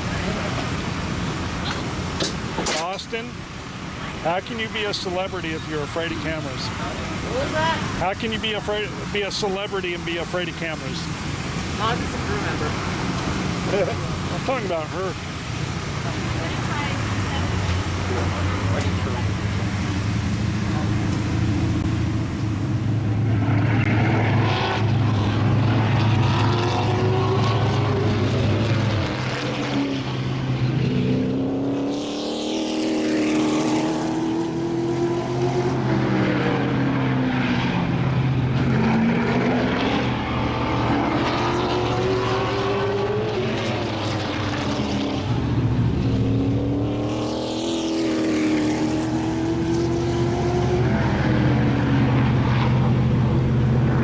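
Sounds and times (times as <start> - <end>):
race car engines accelerating: 0.0 - 54.0.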